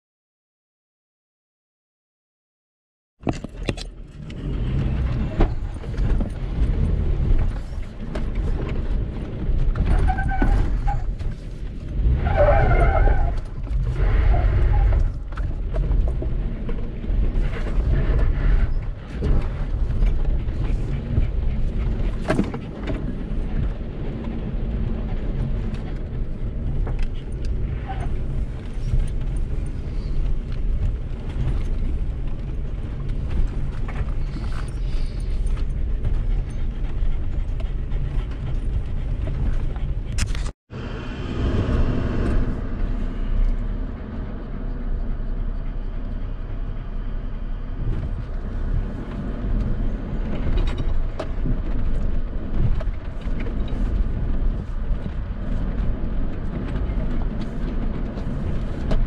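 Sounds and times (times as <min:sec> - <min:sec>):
truck engine rumbling: 0:03.2 - 0:59.0.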